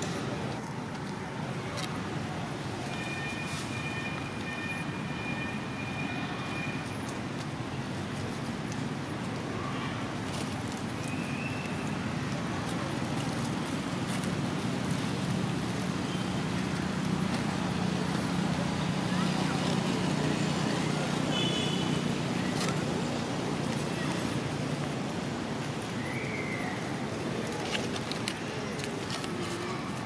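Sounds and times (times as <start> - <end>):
distant road traffic: 0.0 - 30.0.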